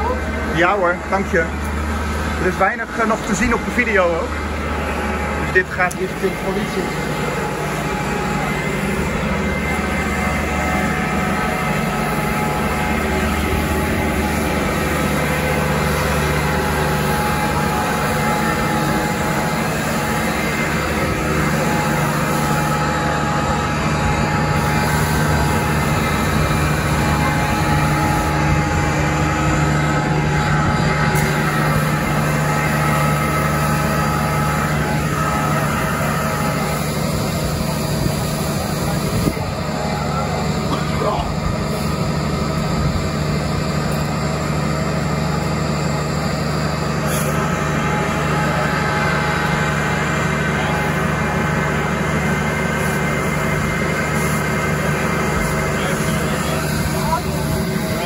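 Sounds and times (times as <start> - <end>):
fire engine water pump drone: 0.0 - 58.0.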